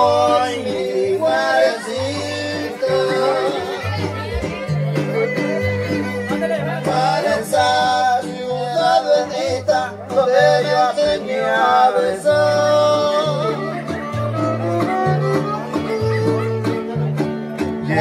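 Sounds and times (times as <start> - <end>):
person singing: 0.0 - 16.7
bass line: 0.0 - 18.0
strummed string instruments: 0.0 - 18.0.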